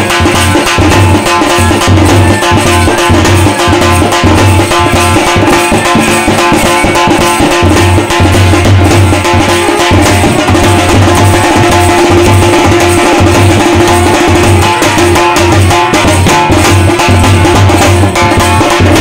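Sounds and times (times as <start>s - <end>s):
hand drum and percussion strokes: 0.0s - 19.0s
low drum beat: 0.0s - 19.0s.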